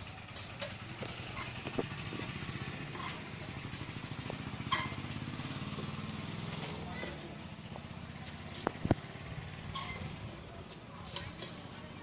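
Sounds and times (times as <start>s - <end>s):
insects droning: 0.0s - 12.0s
motorcycle engine idling: 0.0s - 12.0s.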